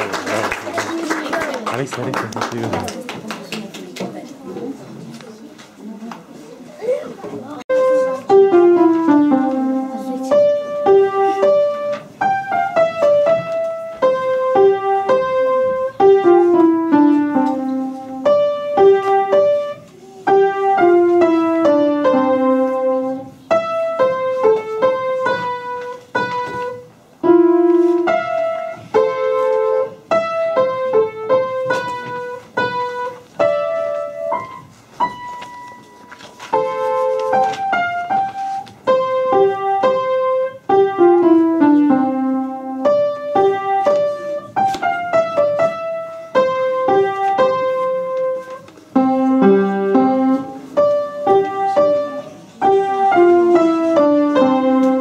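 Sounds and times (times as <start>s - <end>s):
solo piano melody: 7.6s - 55.0s.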